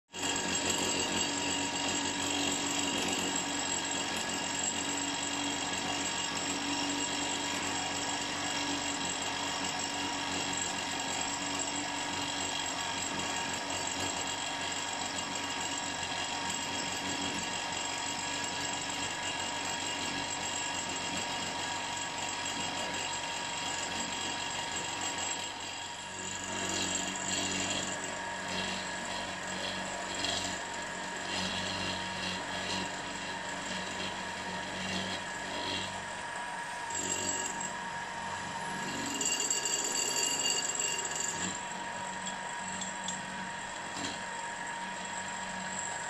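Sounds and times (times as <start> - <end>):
bench drill whining: 0.2 - 46.0
drill bit drilling into metal: 0.2 - 46.0.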